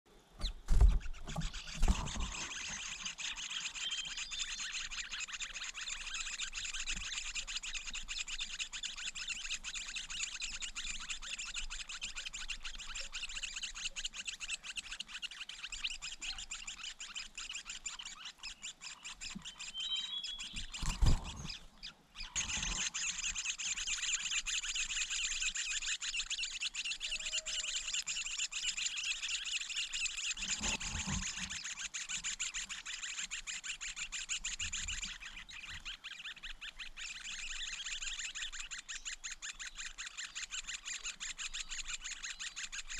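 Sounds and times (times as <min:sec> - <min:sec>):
bird chirps: 0:00.4 - 0:42.9.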